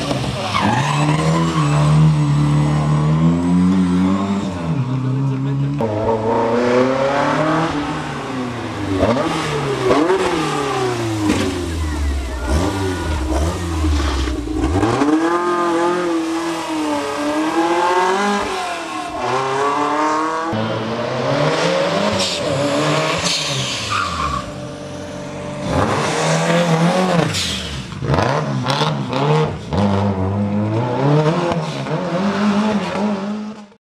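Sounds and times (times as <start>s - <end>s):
rally car engines revving: 0.0s - 33.8s.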